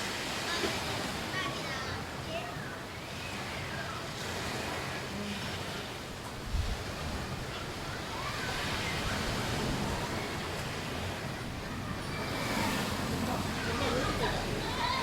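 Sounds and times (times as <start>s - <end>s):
faint distant voices: 0.0s - 15.0s
sea waves washing onto beach: 0.0s - 15.0s.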